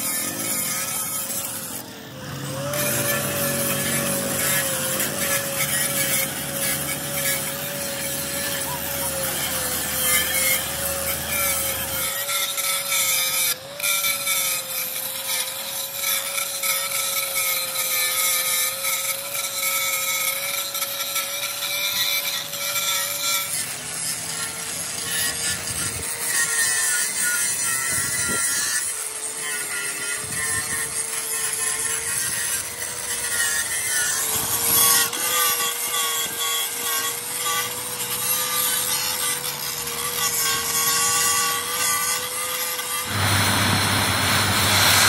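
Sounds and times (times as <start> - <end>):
metal grinding: 0.0 - 45.0
power tool whine: 0.0 - 45.0.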